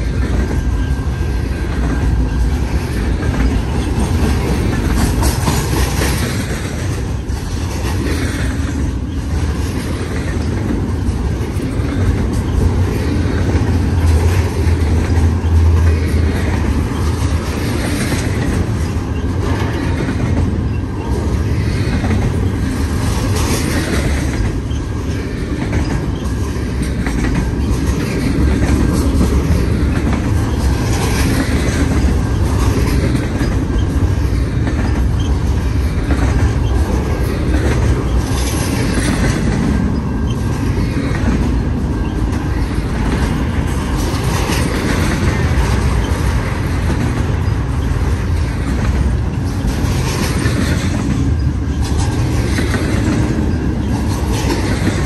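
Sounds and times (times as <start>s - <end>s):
train wheels rumbling on rail: 0.0s - 55.0s
wheels clattering over rail joints: 0.0s - 55.0s.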